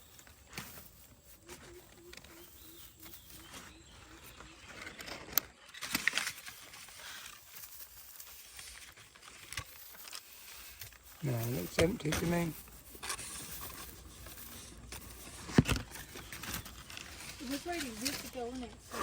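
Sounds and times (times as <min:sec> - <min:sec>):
leaves and stems rustling: 0:00.0 - 0:19.0.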